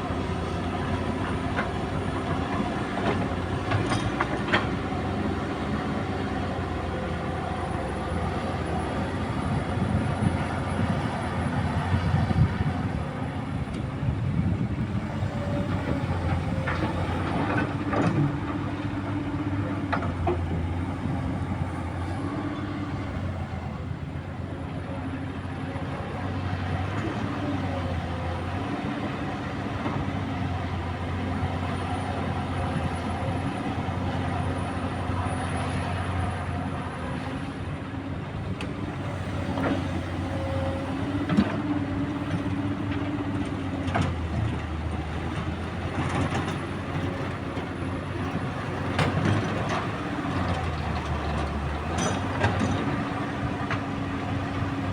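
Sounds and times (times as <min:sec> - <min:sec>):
excavator diesel engine working: 0:00.0 - 0:54.9.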